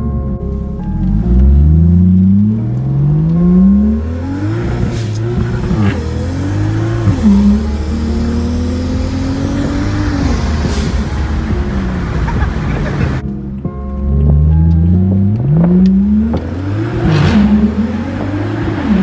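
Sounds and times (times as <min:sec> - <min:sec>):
car engine accelerating hard: 0:00.0 - 0:13.3, 0:14.0 - 0:19.0.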